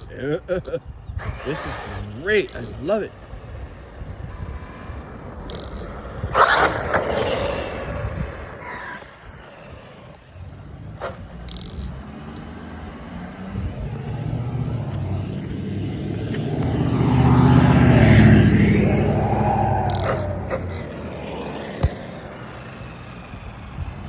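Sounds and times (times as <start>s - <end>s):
tyre noise on ground: 1.2s - 24.0s
electric motor and drivetrain whine: 1.4s - 24.0s.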